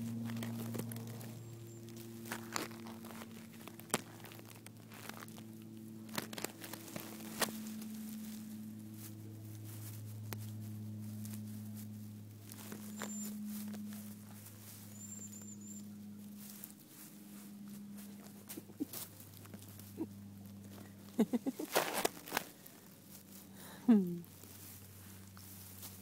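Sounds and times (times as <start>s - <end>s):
paw and grass rustling on camera: 0.0s - 23.6s, 24.2s - 26.0s
steady low hum: 0.0s - 26.0s.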